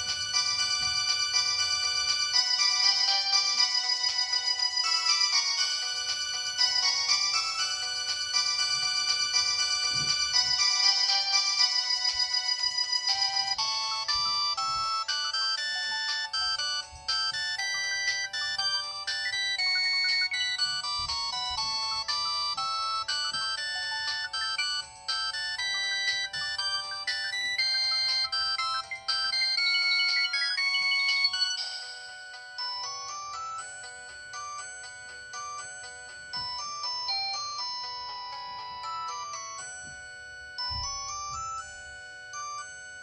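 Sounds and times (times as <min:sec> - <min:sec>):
electronic phone ringtone melody: 0:00.0 - 0:43.0.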